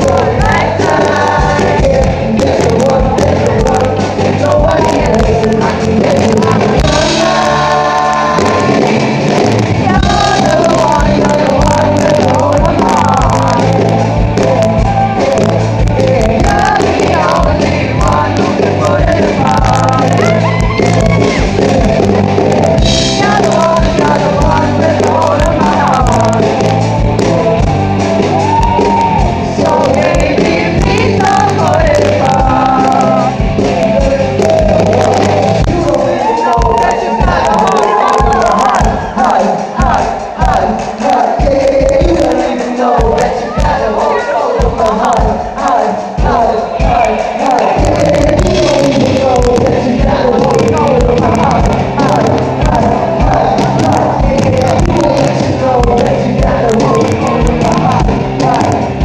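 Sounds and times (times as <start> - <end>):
loud amplified band: 0.0 - 59.0
person singing: 0.0 - 59.0.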